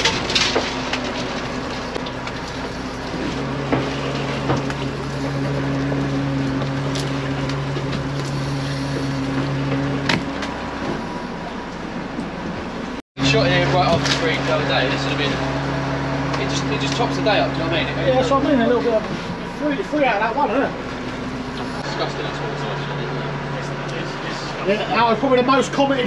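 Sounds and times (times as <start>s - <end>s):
boat machinery humming: 0.0s - 26.0s
deeper machine hum: 0.0s - 26.0s.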